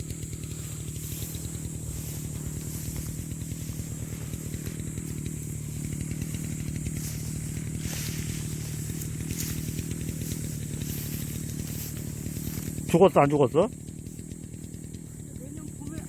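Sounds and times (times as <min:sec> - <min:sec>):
brush cutter engine cutting grass: 0:00.0 - 0:16.0.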